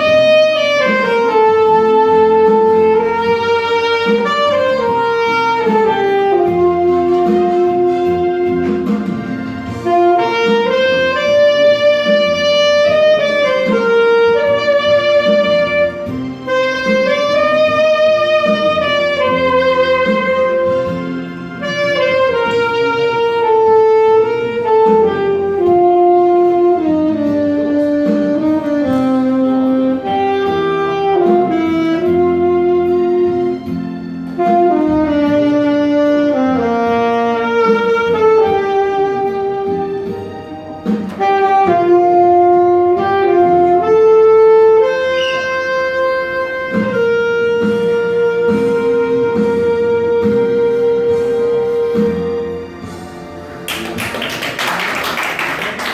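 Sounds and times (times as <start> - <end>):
saxophone ballad melody: 0.0 - 54.0.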